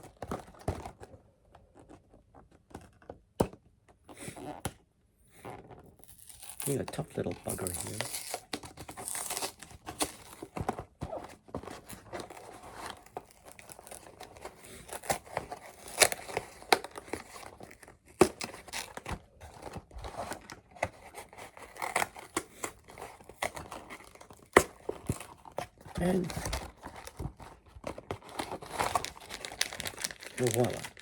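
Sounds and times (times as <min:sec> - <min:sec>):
cardboard box tearing open: 0:05.6 - 0:31.0
packaging crinkling: 0:06.0 - 0:31.0.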